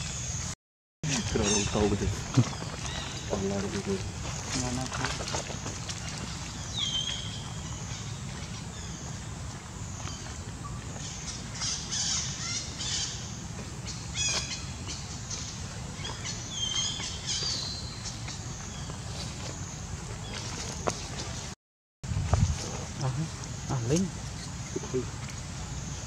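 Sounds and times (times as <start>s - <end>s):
birds calling and chirping: 0.0s - 21.5s, 22.6s - 26.0s.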